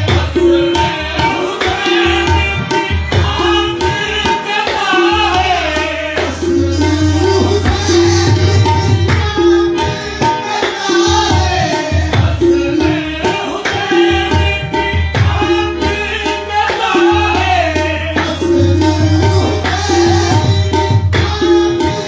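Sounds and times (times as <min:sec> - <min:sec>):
harmoniums: 0:00.0 - 0:22.0
tabla rhythm: 0:00.0 - 0:22.0.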